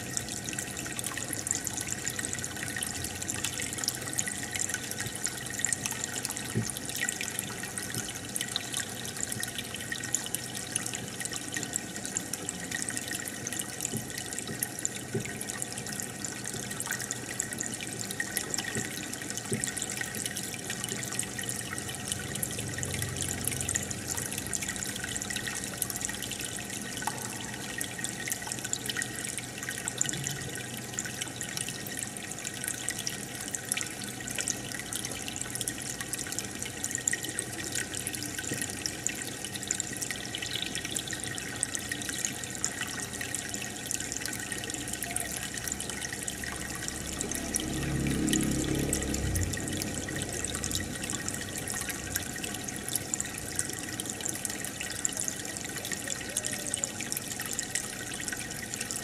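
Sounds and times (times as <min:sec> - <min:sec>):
aquarium air bubbles: 0:00.0 - 0:59.0.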